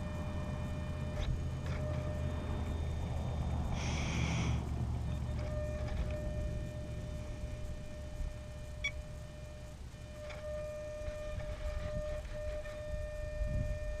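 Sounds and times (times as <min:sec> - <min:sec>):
high electronic tone: 0:00.0 - 0:14.0
wind rumbling on microphone: 0:00.3 - 0:14.0.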